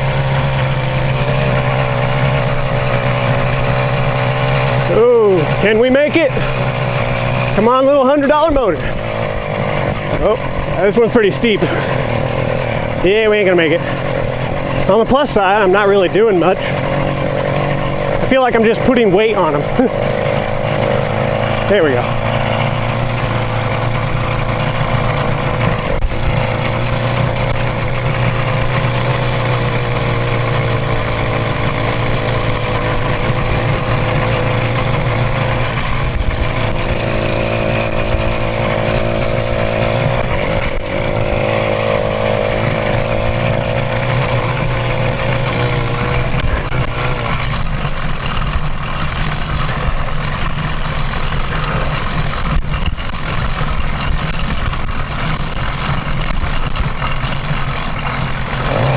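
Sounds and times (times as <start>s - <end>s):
two-stroke engine running: 0.0s - 58.9s.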